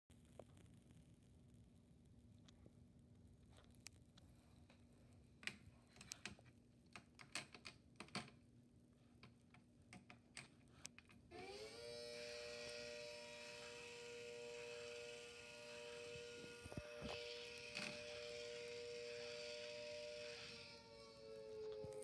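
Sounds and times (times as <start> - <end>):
faint steady hum: 0.1 - 22.0.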